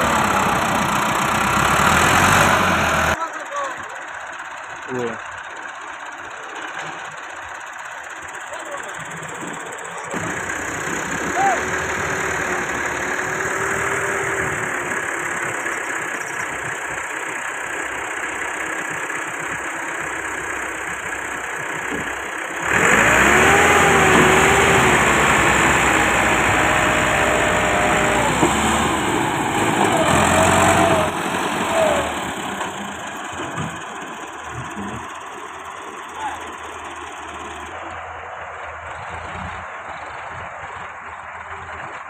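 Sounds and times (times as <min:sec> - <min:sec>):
tractor diesel engine revving: 0:00.0 - 0:42.0.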